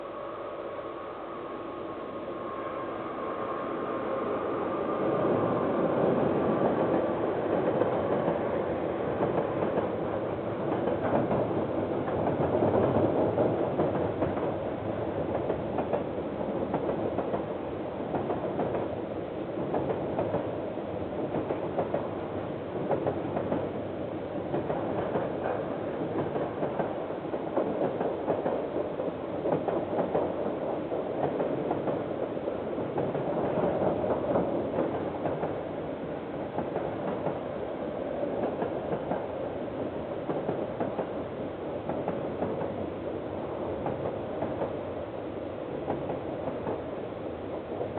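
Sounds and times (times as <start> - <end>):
train wagons rumbling: 4.2 - 19.0, 19.6 - 45.0.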